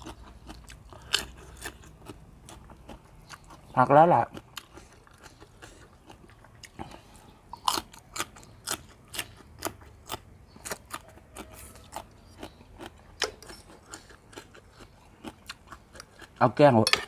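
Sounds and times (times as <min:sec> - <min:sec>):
crunchy chewing of leaves: 0:00.0 - 0:16.8.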